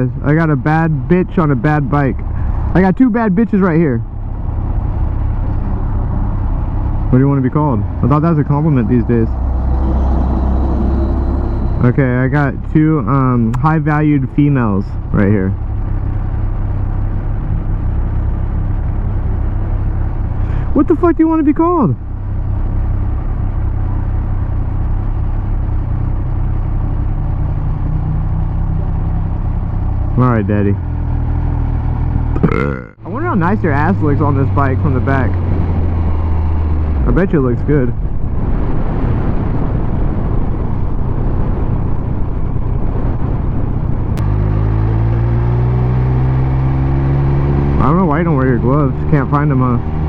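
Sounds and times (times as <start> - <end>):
motorcycle engine low rumble: 0.0 - 50.0
rushing wind noise: 1.2 - 29.8, 33.1 - 50.0.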